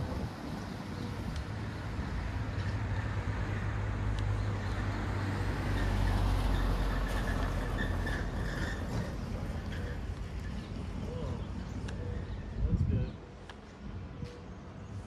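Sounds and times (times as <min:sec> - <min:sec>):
truck engine rumble passing: 0:00.0 - 0:12.6
road traffic: 0:00.0 - 0:15.0.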